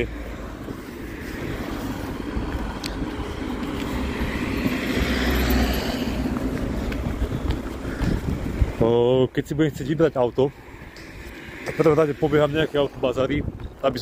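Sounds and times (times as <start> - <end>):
vehicle passing: 0.0 - 14.0.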